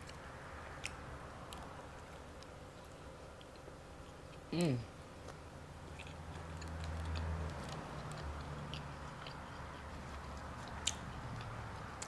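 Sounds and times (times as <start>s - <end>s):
person chewing food: 0.0s - 4.5s, 5.2s - 12.0s
low steady hum: 0.0s - 12.0s.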